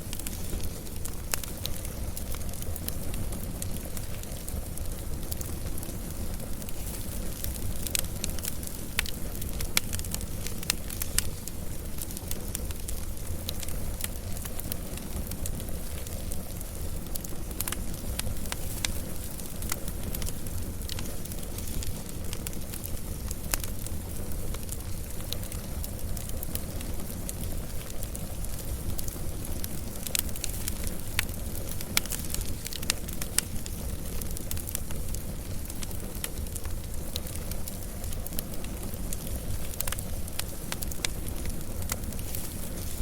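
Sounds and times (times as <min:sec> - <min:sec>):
fire crackling and popping: 0:00.0 - 0:43.0
low rumble of flames: 0:00.0 - 0:43.0.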